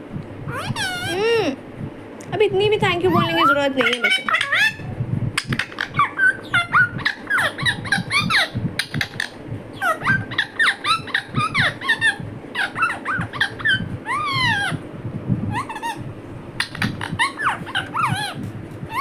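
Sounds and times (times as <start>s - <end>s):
parrot chirping and chattering: 0.5s - 1.4s, 3.0s - 14.8s, 15.5s - 19.0s.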